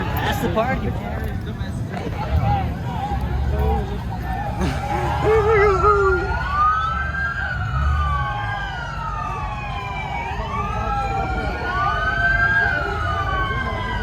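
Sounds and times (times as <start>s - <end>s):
police sirens wailing: 0.0s - 14.0s.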